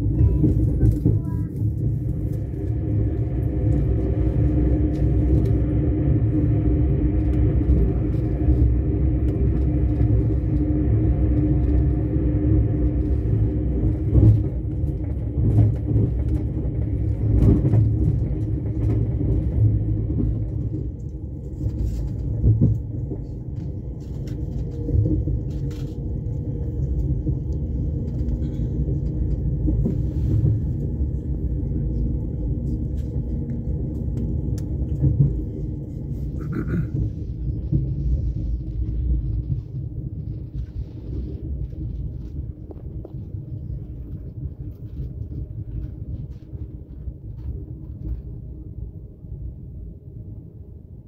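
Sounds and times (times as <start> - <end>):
train rumbling: 0.0 - 51.0.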